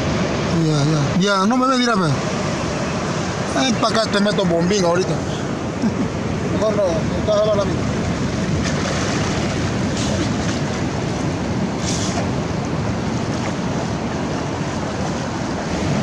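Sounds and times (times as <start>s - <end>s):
surf washing over sand: 0.0s - 16.0s
wind buffeting microphone: 2.0s - 16.0s.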